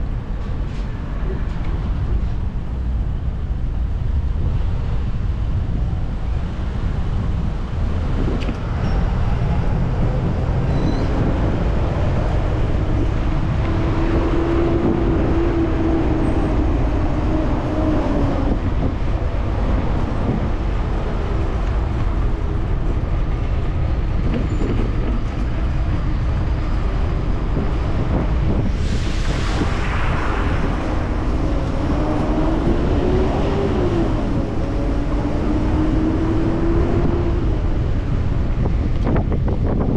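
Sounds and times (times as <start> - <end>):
wind rushing over microphone: 0.0 - 39.9
passing traffic engine hum: 1.0 - 24.3, 24.9 - 39.8.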